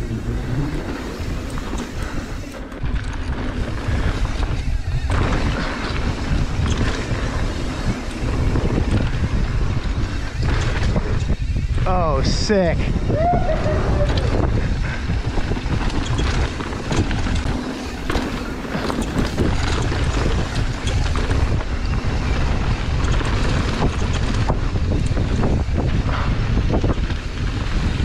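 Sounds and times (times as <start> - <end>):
bike knocks and rattles: 0.0 - 28.0
bike tyres rolling on dirt: 0.0 - 28.0
wind buffeting microphone: 0.0 - 28.0.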